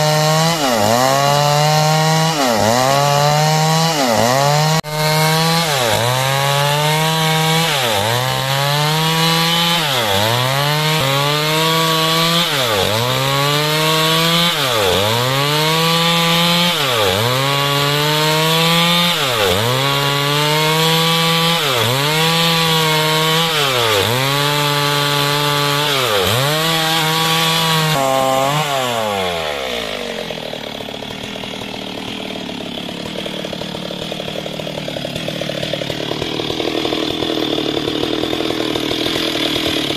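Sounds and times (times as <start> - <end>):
chainsaw cutting timber: 0.0 - 39.9
chainsaw idling: 0.0 - 39.9.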